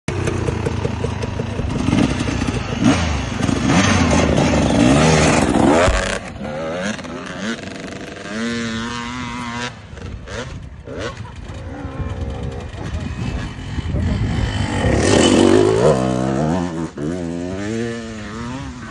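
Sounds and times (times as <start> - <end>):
motorcycle engine revving: 0.1 - 18.9.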